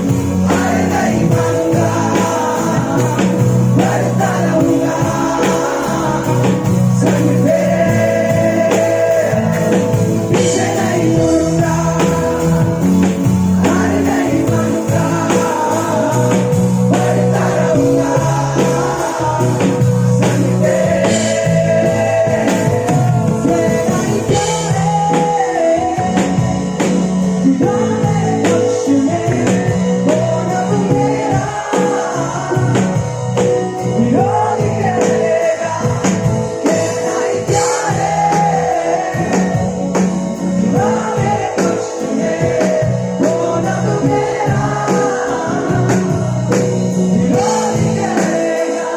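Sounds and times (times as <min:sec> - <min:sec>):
bass guitar: 0:00.0 - 0:48.9
guitar: 0:00.0 - 0:48.9
person singing: 0:00.0 - 0:48.9.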